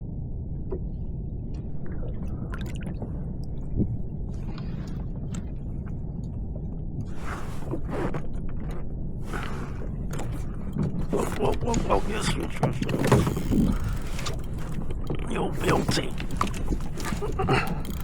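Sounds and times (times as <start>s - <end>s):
steady low rumble: 0.0s - 18.0s
water sloshing and dripping: 0.6s - 18.0s.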